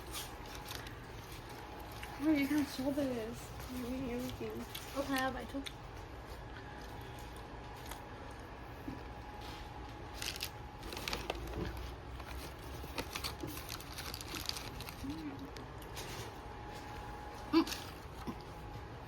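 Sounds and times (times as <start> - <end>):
food packaging crinkling: 0.0 - 18.8
low steady hum: 0.0 - 19.0.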